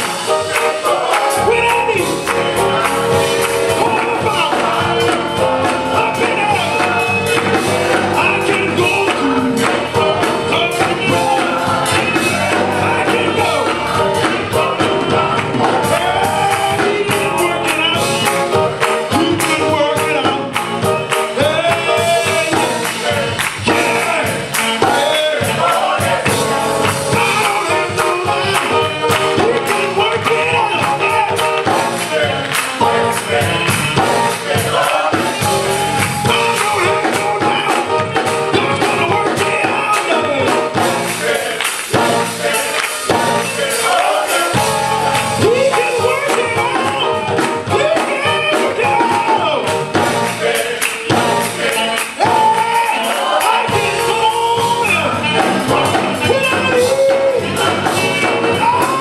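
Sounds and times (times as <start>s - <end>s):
men's choir singing gospel: 0.0s - 59.0s
rhythmic hand-clapping: 0.0s - 59.0s.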